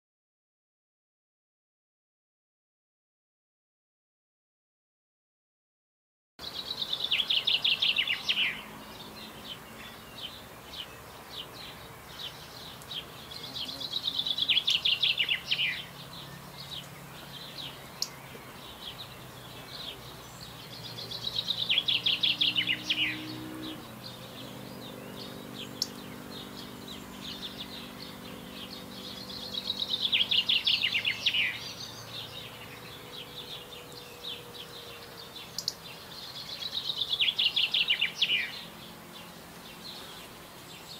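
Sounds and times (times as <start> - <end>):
songbird trilling: 6.4 - 40.9.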